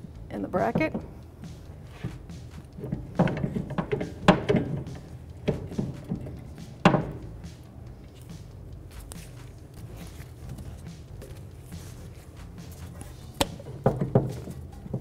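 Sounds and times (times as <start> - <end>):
metal suspension parts knocking: 0.0 - 15.0.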